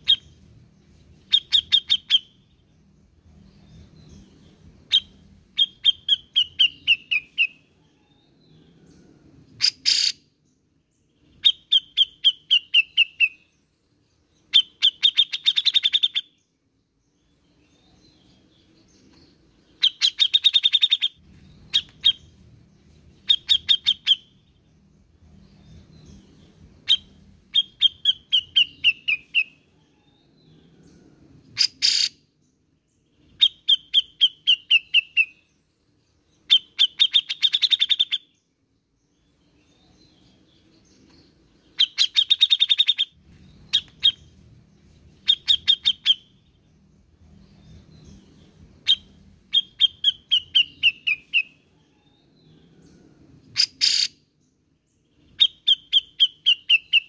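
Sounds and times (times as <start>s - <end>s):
bird chattering song: 0.0s - 10.4s, 11.0s - 57.0s.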